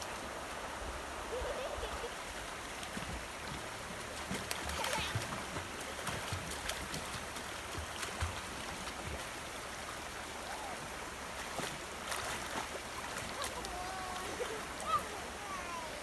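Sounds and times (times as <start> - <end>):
river water rushing: 0.0 - 16.0
small splashes: 1.3 - 16.0.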